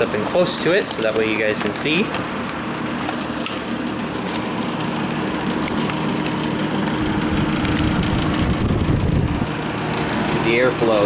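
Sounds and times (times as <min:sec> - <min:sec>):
air conditioner fan running: 0:00.0 - 0:11.0.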